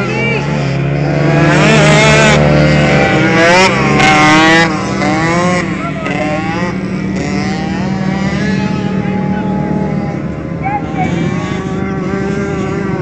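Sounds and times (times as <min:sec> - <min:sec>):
low engine drone: 0:00.0 - 0:13.0
motocross engines revving: 0:00.0 - 0:13.0.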